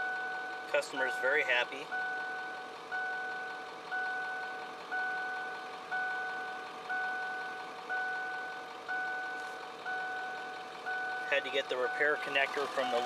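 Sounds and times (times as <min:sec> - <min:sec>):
vehicle warning chime bongs: 0:00.0 - 0:13.0.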